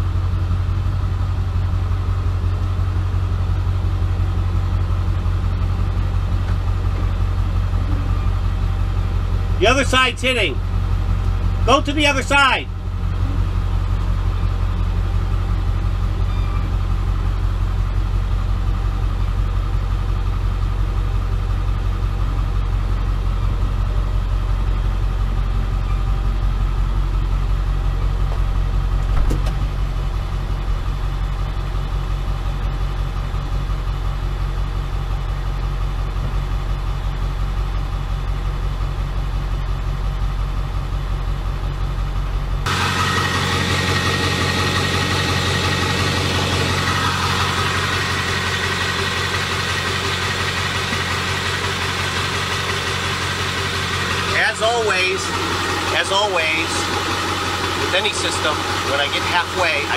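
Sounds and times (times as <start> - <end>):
pickup truck engine idling: 0.0 - 59.9.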